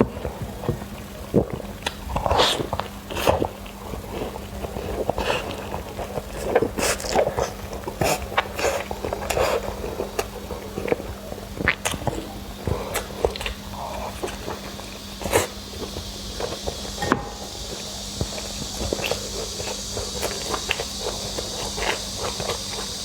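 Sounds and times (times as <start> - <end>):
person chewing and lip-smacking: 0.2 - 23.0.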